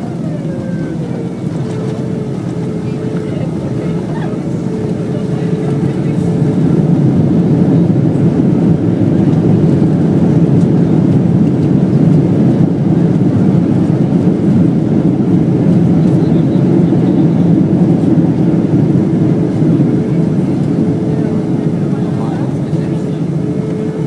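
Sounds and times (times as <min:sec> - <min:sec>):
aircraft cabin engine roar: 0:00.0 - 0:24.0.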